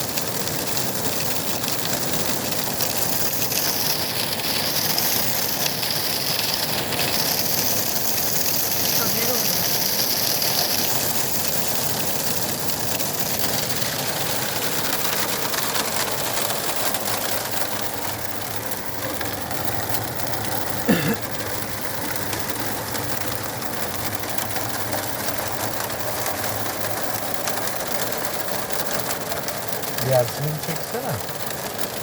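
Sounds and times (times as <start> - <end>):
rain and hail on vehicle roof: 0.0 - 32.0.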